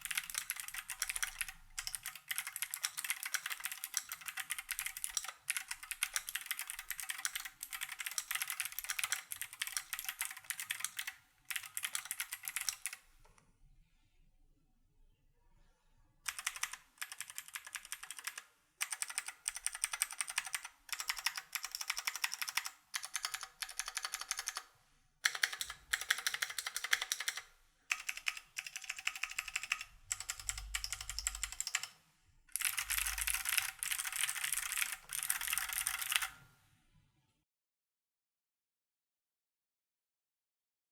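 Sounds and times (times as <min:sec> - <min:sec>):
clicky mechanical keyboard typing: 0:00.0 - 0:13.1, 0:16.3 - 0:36.4.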